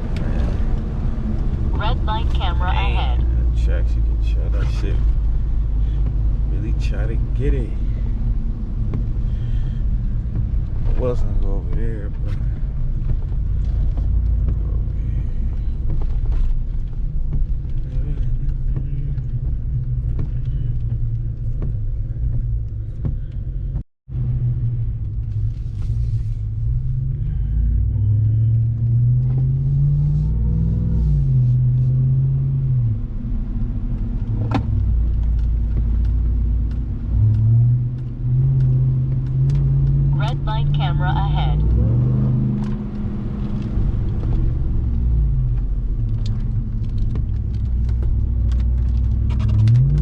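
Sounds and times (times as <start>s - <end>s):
road noise: 0.0s - 50.0s
truck engine rumble: 0.0s - 50.0s.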